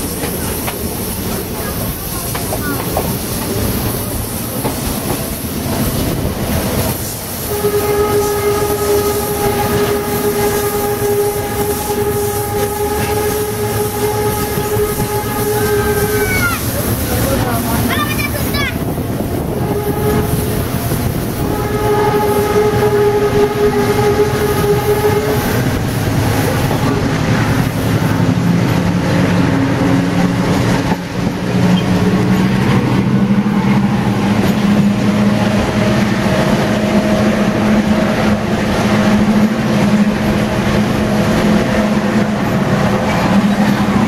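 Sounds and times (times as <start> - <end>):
rumble of train wheels: 0.0 - 44.0
train horn: 6.8 - 17.5, 19.3 - 44.0.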